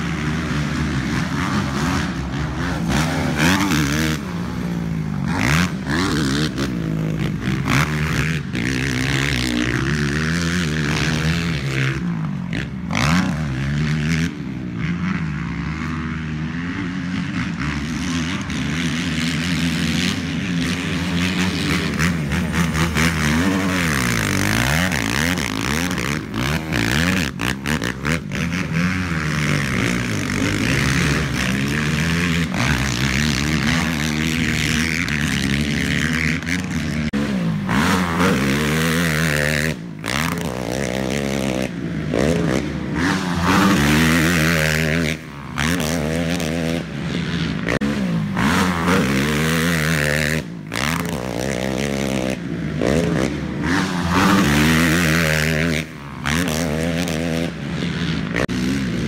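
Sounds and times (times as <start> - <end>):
atv engine revving hard: 0.0 - 59.0.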